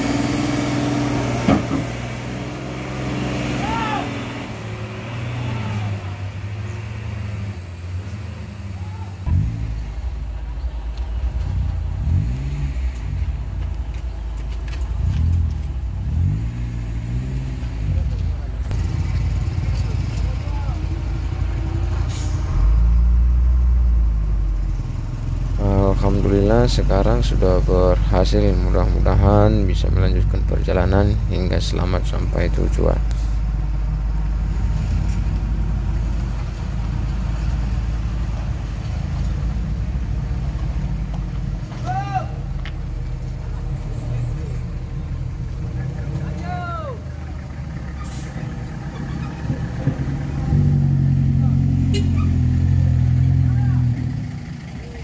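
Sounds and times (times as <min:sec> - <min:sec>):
cars moving slowly past: 0:00.0 - 0:55.0
diesel truck engine revving: 0:00.0 - 0:55.0.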